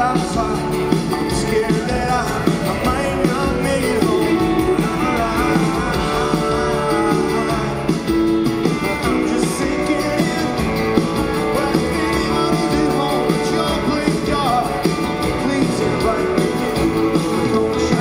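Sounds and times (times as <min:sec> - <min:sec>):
drums: 0:00.0 - 0:18.0
electric guitar: 0:00.0 - 0:18.0
man singing: 0:00.0 - 0:18.0.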